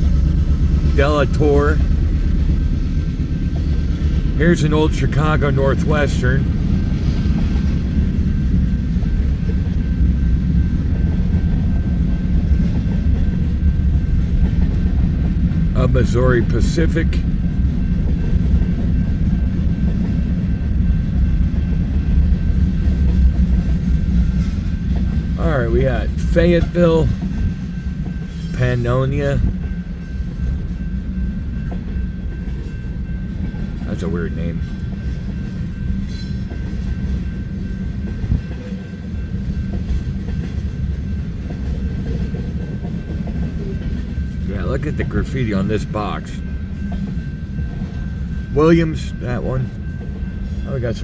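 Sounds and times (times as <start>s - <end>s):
steel wheels rumbling on rails: 0.0s - 51.0s.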